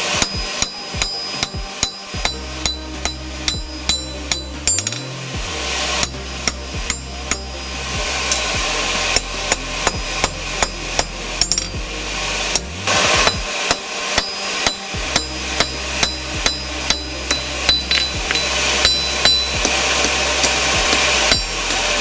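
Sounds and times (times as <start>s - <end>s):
low hum: 0.0s - 22.0s
hammer striking steel on anvil: 0.1s - 5.2s, 6.0s - 7.7s, 9.2s - 11.8s, 12.5s - 21.9s.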